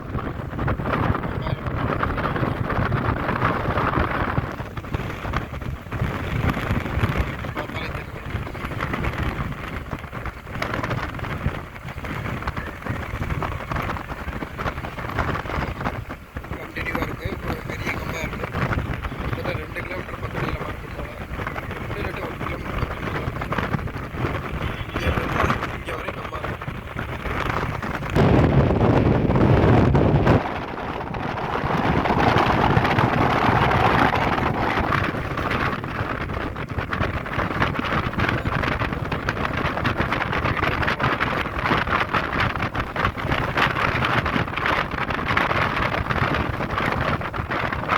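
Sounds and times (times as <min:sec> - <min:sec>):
passing traffic: 0:00.0 - 0:47.9
vehicle road noise: 0:00.0 - 0:47.9
wind buffeting microphone: 0:00.0 - 0:47.9.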